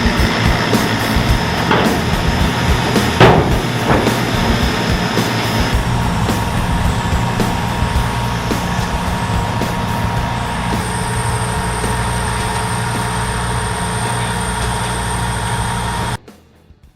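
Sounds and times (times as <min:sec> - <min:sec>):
bulldozer diesel engine running: 0:00.0 - 0:16.4.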